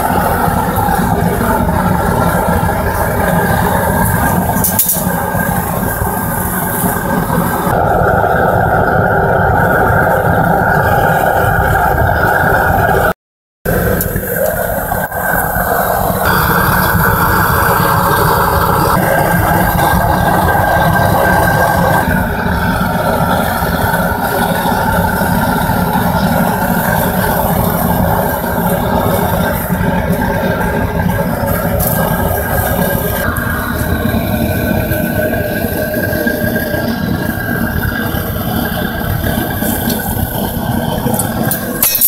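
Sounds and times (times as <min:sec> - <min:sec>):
gas burner roaring: 0:00.0 - 0:42.0.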